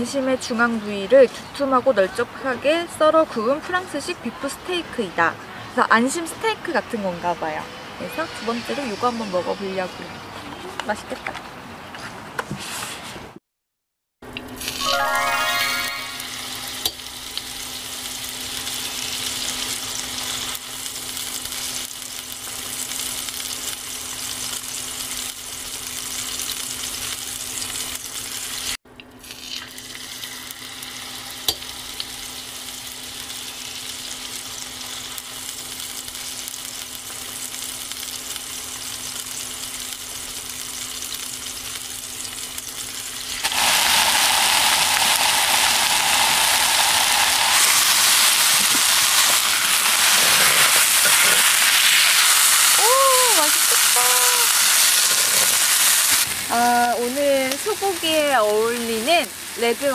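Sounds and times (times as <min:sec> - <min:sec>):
meat sizzling on griddle: 0:07.8 - 0:10.6, 0:14.6 - 0:59.9.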